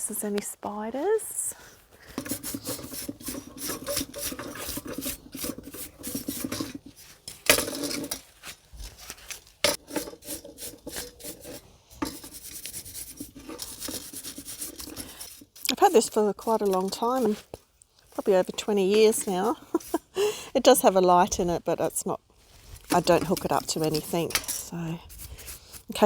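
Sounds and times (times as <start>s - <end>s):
brush scrubbing metal: 2.1s - 20.2s, 22.6s - 26.0s.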